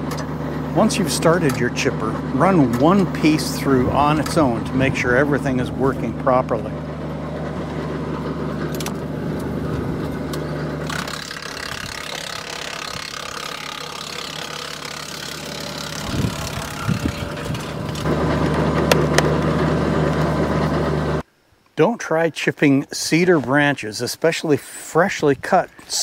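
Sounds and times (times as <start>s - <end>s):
tractor engine drone: 0.0s - 21.2s
wood chipper chipping branch: 0.0s - 21.2s.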